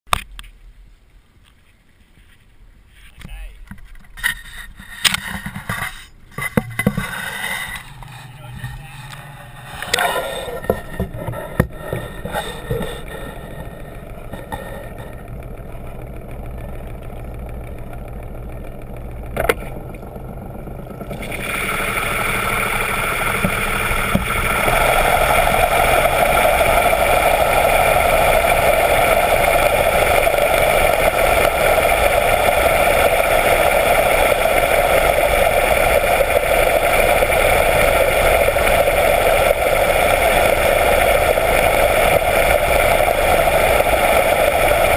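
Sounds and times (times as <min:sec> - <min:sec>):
underwater propeller hum: 0:04.7 - 0:44.9
sharp clicks underwater: 0:06.4 - 0:44.9.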